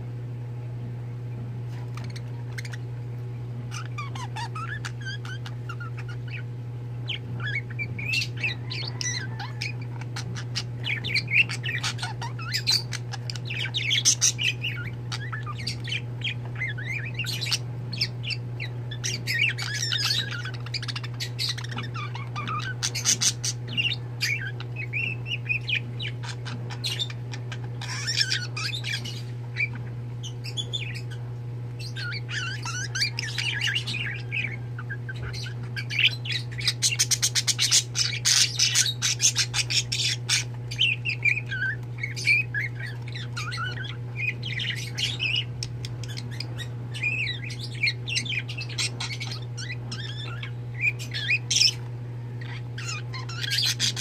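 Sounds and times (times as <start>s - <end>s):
budgerigars chirping and warbling: 1.7s - 54.0s.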